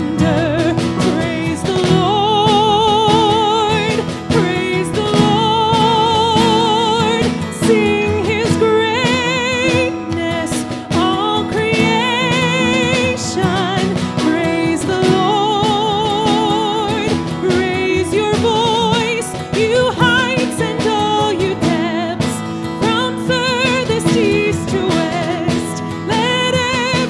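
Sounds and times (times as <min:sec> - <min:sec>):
band with drum kit: 0:00.0 - 0:27.0
woman singing with vibrato: 0:00.0 - 0:27.0.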